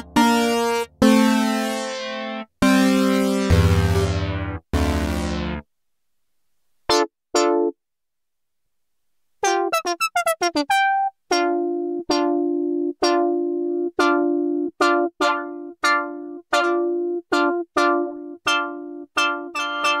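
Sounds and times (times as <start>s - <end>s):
synth chords and notes: 0.0s - 5.7s, 6.9s - 7.8s, 9.4s - 20.0s.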